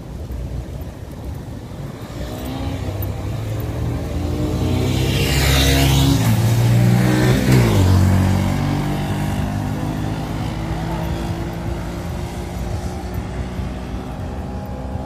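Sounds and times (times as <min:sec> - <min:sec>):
motorbike passing by: 0:01.4 - 0:15.0.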